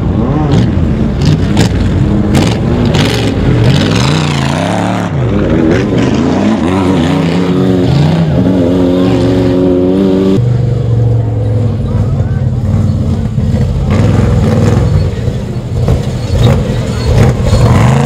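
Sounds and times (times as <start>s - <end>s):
off-road vehicles revving past: 0.0s - 18.0s.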